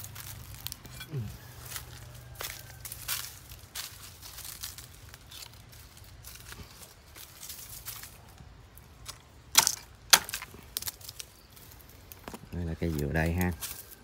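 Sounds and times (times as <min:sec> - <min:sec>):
dry leaves rustling and crackling: 0:00.0 - 0:14.0.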